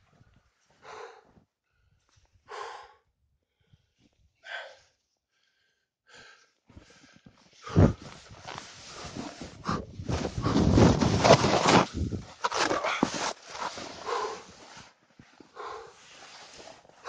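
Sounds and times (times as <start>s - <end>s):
person breathing hard: 0.6s - 17.0s.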